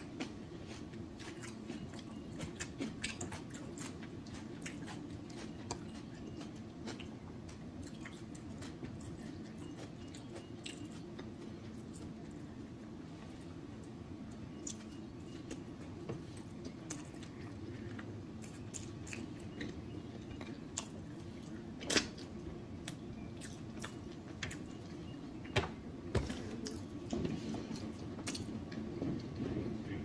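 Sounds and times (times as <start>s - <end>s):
chewing and mouth smacking: 0.0s - 12.4s, 13.2s - 25.1s, 27.8s - 29.4s
low steady hum: 0.0s - 30.0s.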